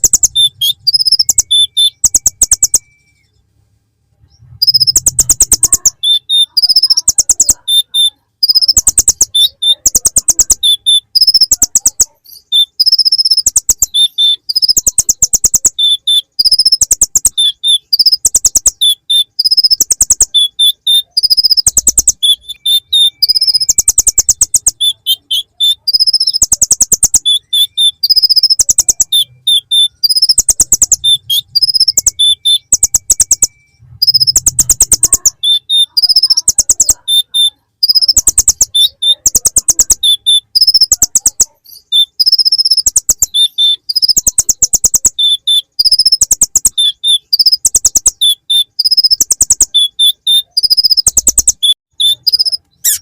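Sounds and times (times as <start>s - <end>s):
sunbird singing buzzy trills: 0.0s - 3.2s, 4.3s - 53.0s.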